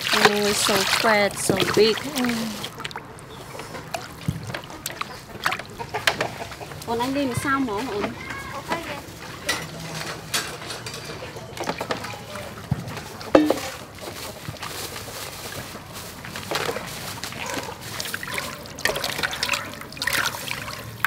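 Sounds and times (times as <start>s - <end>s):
water sloshing in metal bowl: 0.0s - 8.0s, 8.7s - 21.0s.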